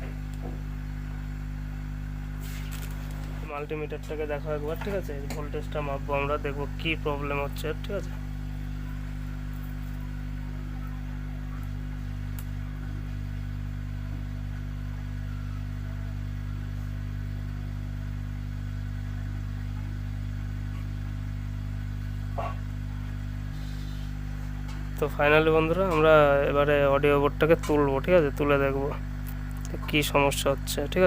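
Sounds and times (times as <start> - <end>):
mains hum from speaker: 0.0 - 31.0.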